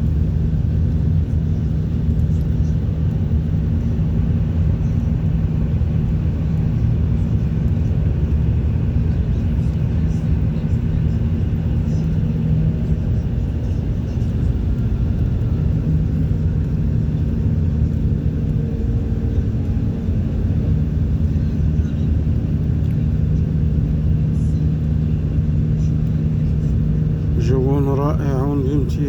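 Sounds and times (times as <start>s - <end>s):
car engine hum: 0.0s - 29.0s.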